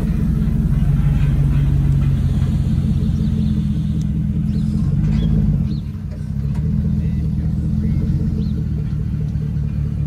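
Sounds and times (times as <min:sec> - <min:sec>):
truck engine exhaust rumble: 0:00.0 - 0:10.0.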